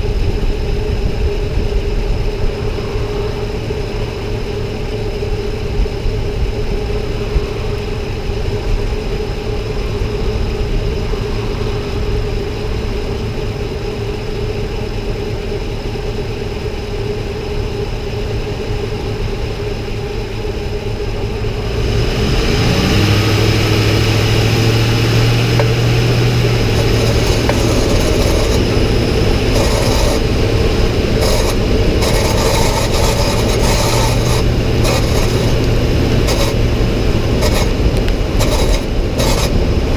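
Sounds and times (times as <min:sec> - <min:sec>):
engine hum with hiss: 0:00.0 - 0:39.9
pickup truck engine drone: 0:00.0 - 0:39.9.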